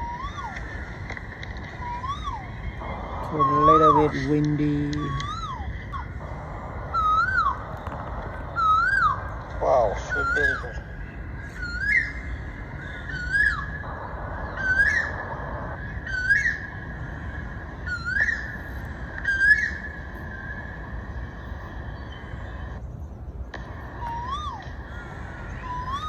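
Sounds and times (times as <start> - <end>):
bird calling swooping note: 0.0 - 22.8
wind rumble on microphone: 0.0 - 26.0.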